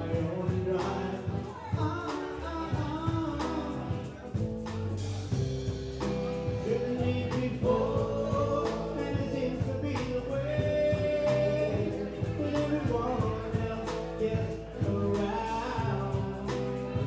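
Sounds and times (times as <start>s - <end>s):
drum kit: 0.0s - 17.0s
electric guitars: 0.0s - 17.0s
man singing: 0.0s - 17.0s.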